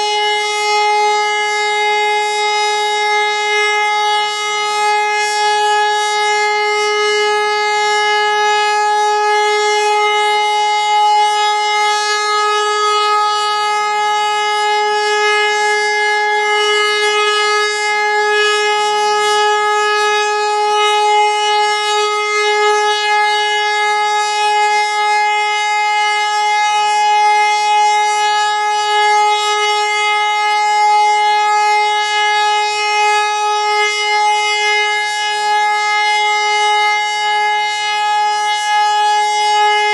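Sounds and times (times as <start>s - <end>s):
siren steady tone: 0.0s - 39.9s.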